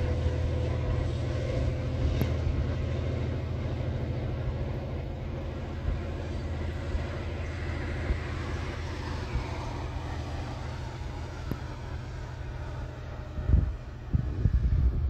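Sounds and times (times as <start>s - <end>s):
diesel locomotive hauling train: 0.0s - 15.0s.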